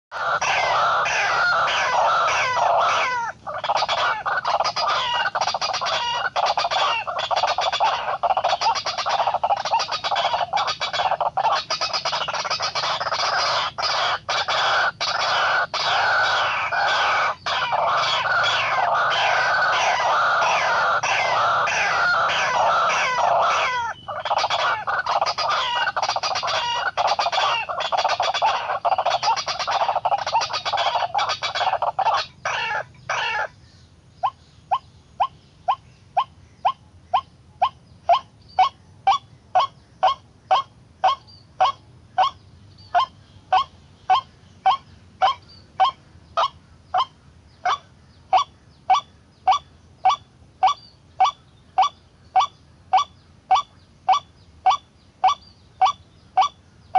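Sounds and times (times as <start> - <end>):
waterhen calling: 0.1 - 56.6.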